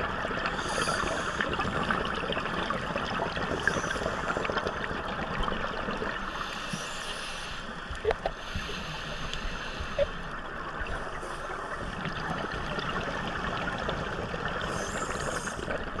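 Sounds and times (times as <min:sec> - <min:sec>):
regulator bubbles hissing: 0:00.0 - 0:16.0
steady underwater crackle: 0:00.0 - 0:16.0.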